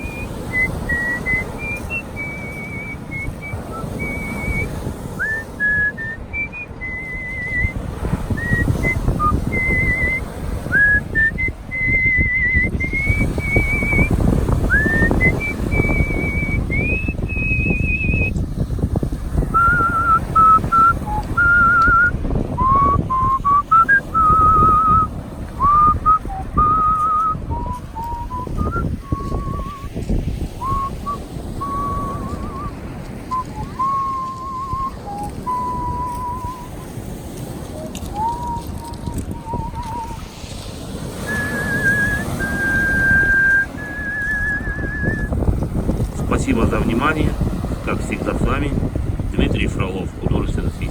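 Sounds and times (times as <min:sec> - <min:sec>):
person whistling a melody: 0:00.0 - 0:18.4, 0:19.5 - 0:29.9, 0:30.6 - 0:36.8, 0:38.0 - 0:40.2, 0:41.2 - 0:45.3
steady rushing noise: 0:00.0 - 0:50.9.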